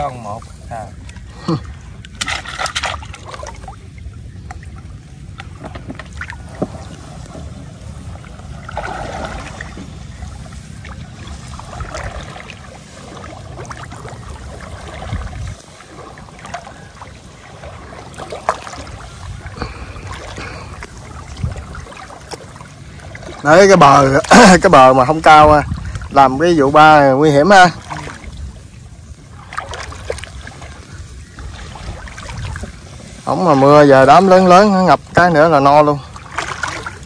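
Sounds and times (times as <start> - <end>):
steady low rumble: 0.0 - 33.4
water sloshing and trickling: 0.0 - 37.0.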